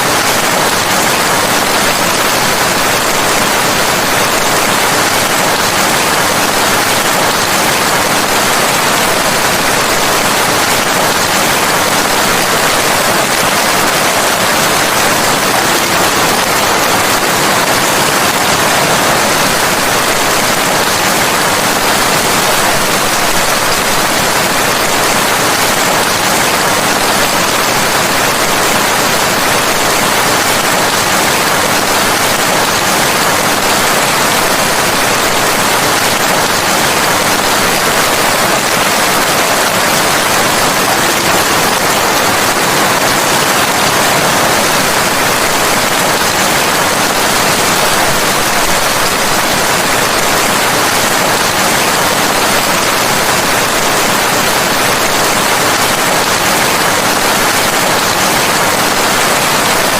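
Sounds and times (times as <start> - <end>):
steady dense rain: 0.0 - 59.9.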